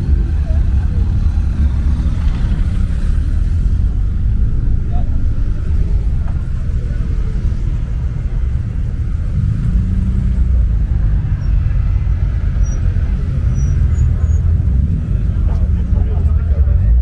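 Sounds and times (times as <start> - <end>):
engine revving: 0.0 - 16.4
car engines rumbling: 0.0 - 17.0.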